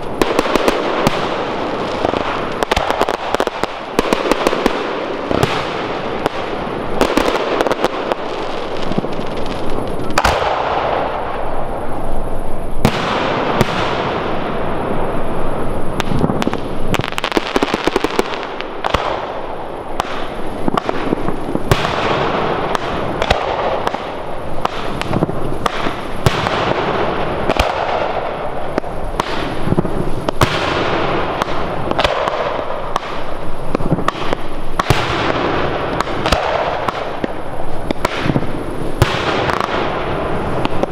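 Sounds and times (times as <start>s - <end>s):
fireworks bursting and crackling: 0.0s - 40.9s
sharp firework bangs: 0.0s - 40.9s.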